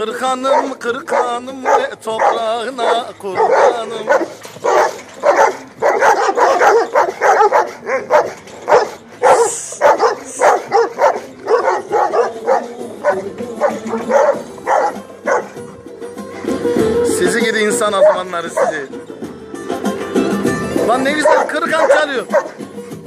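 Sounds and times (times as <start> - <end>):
folk song playing: 0.0 - 23.0
dogs barking and yelping: 0.1 - 15.7, 17.9 - 19.0, 20.8 - 23.0.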